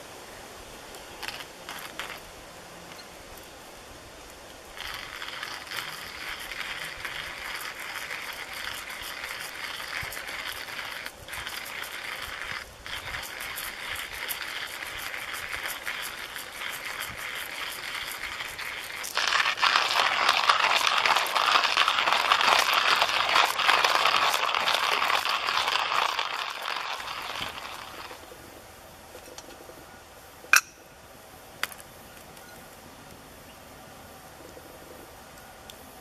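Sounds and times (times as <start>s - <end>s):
campfire crackling and hissing: 0.0s - 36.0s.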